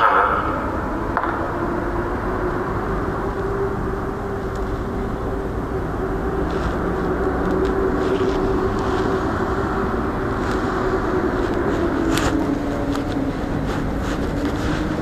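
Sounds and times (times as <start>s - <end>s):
passenger train rumbling: 0.0s - 15.0s
steady hum: 0.0s - 15.0s.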